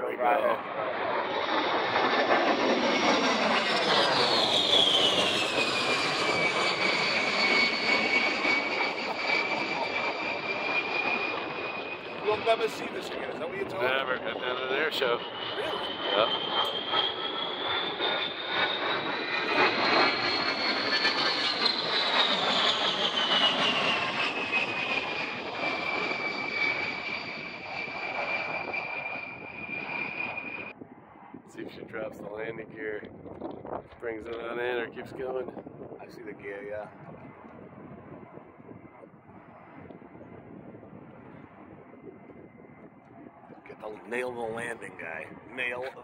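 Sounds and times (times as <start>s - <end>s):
jet engine whine: 0.0s - 46.0s.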